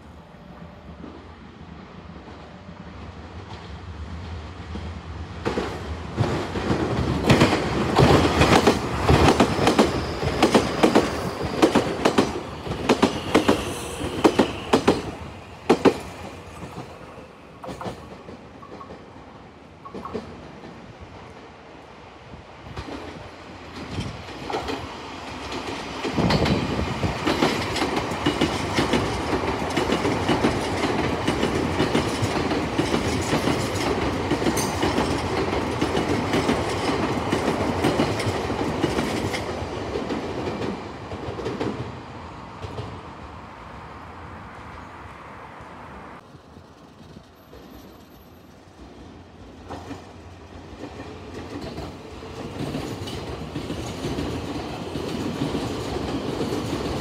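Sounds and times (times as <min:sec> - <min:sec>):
train passing on track: 0:00.0 - 0:57.0.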